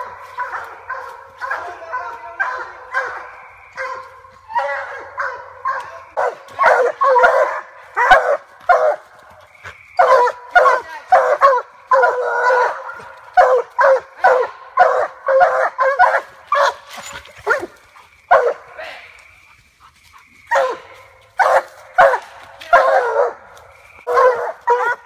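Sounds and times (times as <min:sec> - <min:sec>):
hounds barking: 0:00.0 - 0:25.0.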